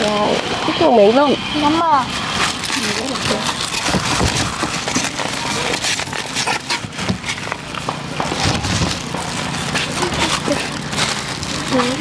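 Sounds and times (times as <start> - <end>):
plastic bags and boxes rustling: 1.9 - 12.0.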